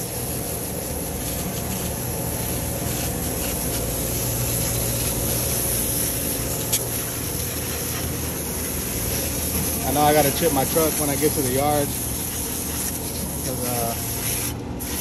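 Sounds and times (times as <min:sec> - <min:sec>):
hose water spraying on metal: 0:00.0 - 0:15.0.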